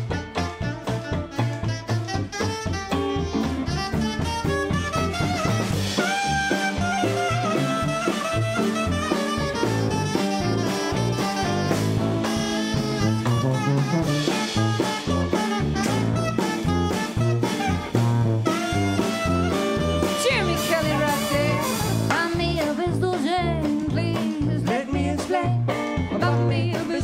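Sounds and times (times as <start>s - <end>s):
clarinet and trombone lead: 0.0s - 22.7s
sousaphone bass line: 0.0s - 27.0s
swing jazz band playing: 0.0s - 27.0s.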